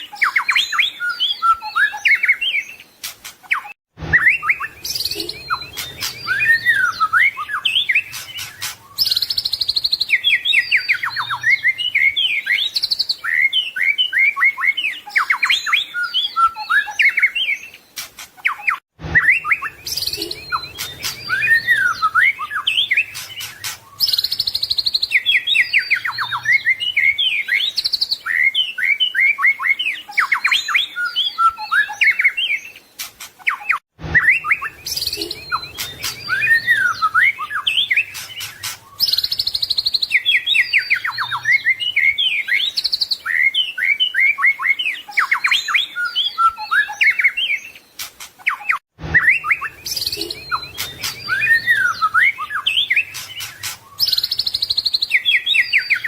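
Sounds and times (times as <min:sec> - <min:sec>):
songbird whistles and trills: 0:00.0 - 0:56.0.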